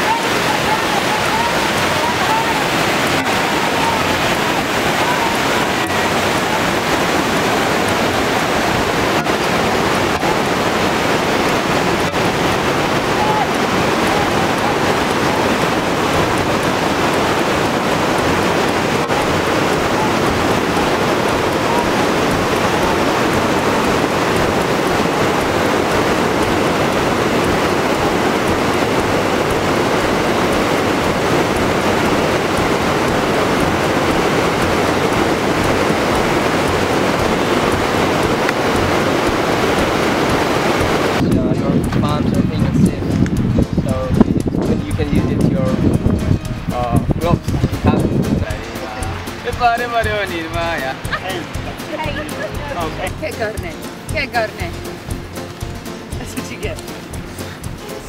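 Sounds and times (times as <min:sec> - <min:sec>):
whitewater rapids roaring: 0:00.0 - 0:58.0.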